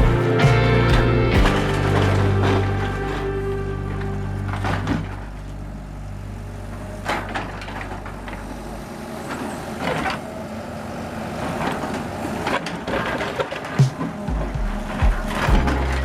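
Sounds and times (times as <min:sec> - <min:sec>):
diesel engine humming: 0:00.0 - 0:12.4, 0:14.8 - 0:16.0.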